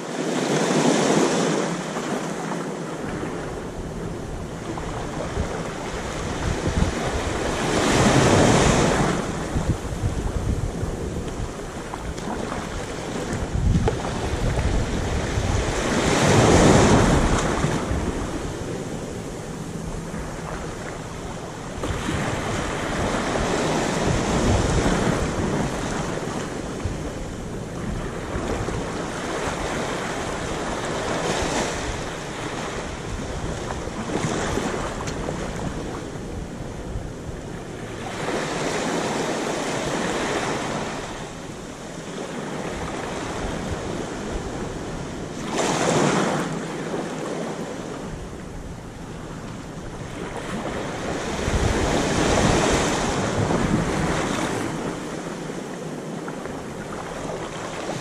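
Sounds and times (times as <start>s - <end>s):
small waves lapping on sand: 0.0s - 58.0s.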